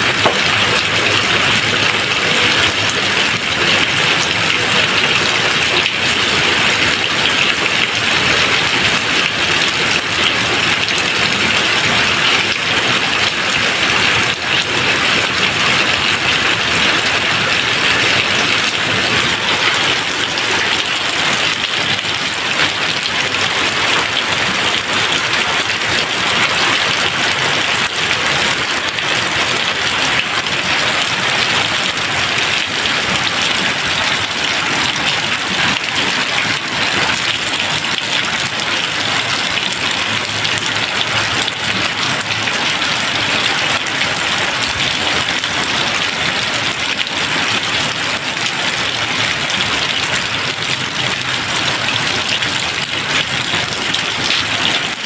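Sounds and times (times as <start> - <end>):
dense rain falling: 0.0 - 55.0.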